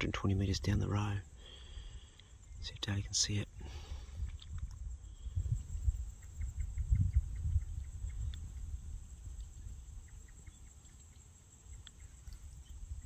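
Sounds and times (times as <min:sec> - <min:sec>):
wind rumble on microphone: 0:02.5 - 0:13.0.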